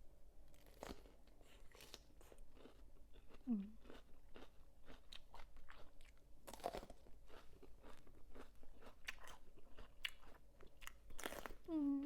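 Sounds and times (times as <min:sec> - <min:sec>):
close-up crunchy chewing: 0:00.5 - 0:11.7.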